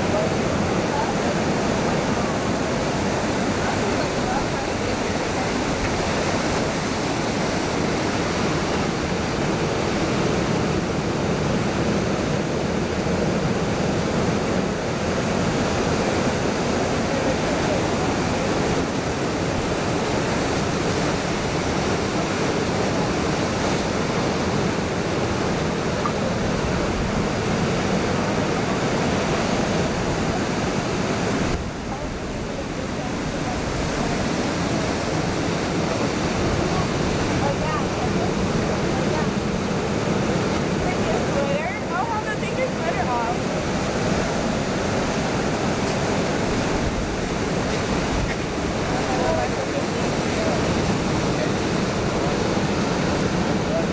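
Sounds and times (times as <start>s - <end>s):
ocean waves breaking on beach: 0.0s - 53.9s.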